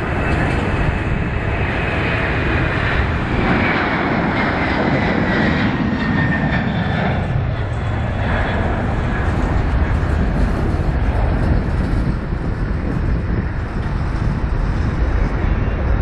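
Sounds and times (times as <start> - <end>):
jet airliner roaring at takeoff: 0.0 - 16.0.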